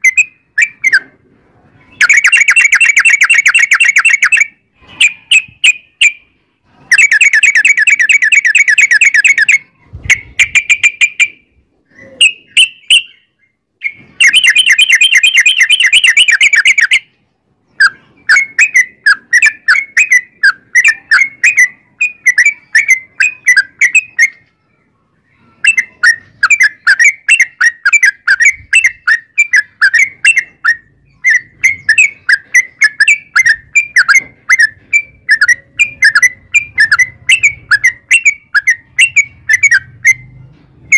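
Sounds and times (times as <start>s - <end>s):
bird singing rolling trills: 0.0s - 40.9s.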